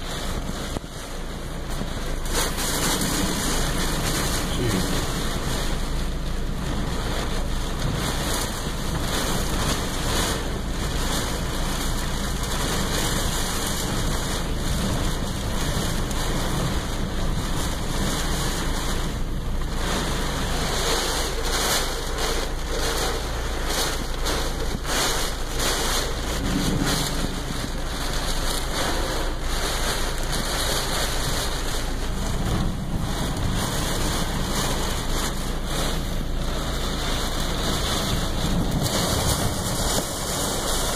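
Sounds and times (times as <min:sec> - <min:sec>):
heavy rain on car roof: 0:00.0 - 0:40.9.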